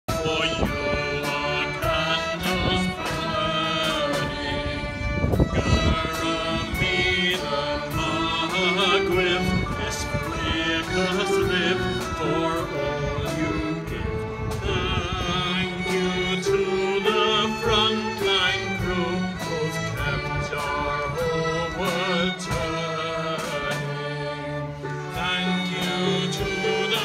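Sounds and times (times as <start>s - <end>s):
string orchestra sustained notes: 0.1s - 27.0s
voices singing: 0.1s - 27.0s.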